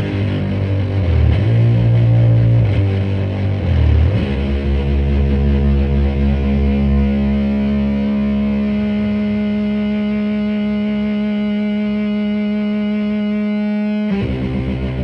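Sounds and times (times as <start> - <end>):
heavily distorted guitar chords: 0.0 - 15.0.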